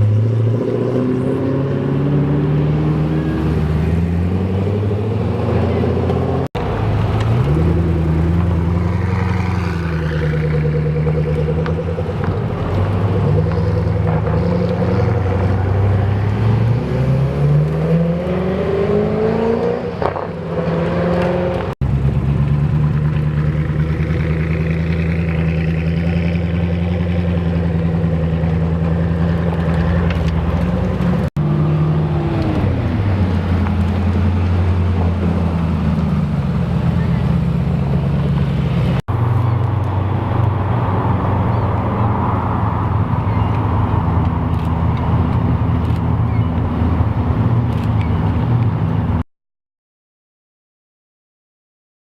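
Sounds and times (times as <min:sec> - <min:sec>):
car engine revving up: 0:00.0 - 0:48.5.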